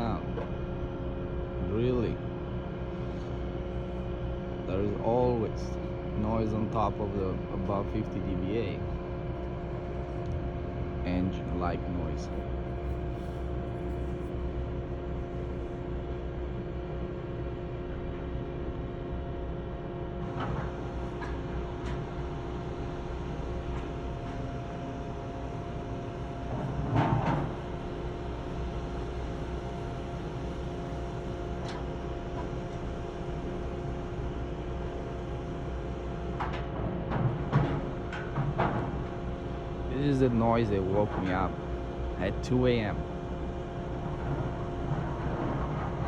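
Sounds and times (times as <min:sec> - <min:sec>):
drilling rig engine drone: 0:00.0 - 0:17.0, 0:20.1 - 0:46.0.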